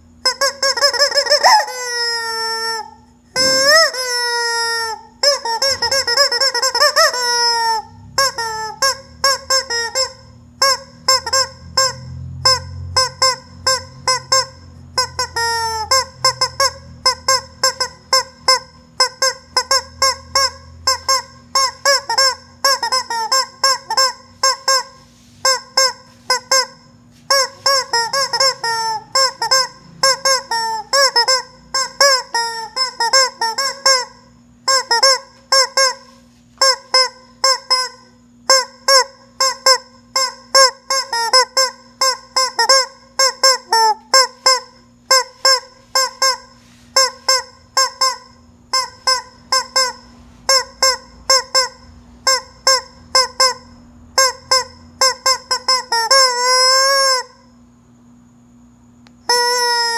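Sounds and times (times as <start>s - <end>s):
rubber chicken toy squawking: 0.2s - 57.5s, 59.2s - 59.9s.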